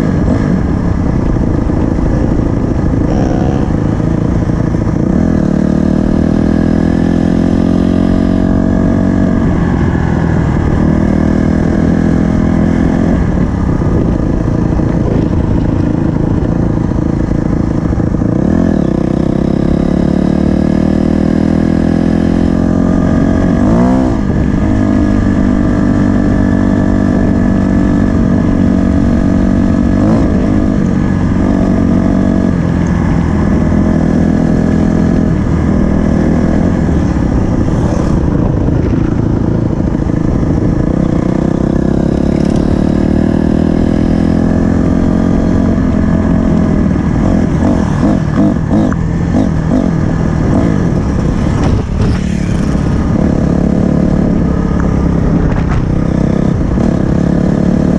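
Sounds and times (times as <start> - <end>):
dirt bike engine revving: 1.4 - 9.6, 17.7 - 57.9.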